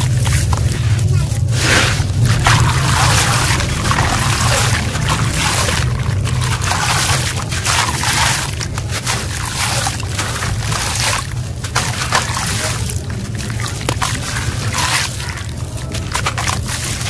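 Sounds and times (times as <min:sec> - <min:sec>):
steady low hum: 0:00.0 - 0:17.0
wet cement trickling into water: 0:00.0 - 0:17.0.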